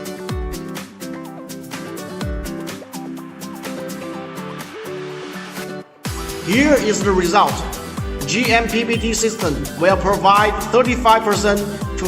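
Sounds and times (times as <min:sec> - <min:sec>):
background music with synth melody: 0:00.0 - 0:12.0.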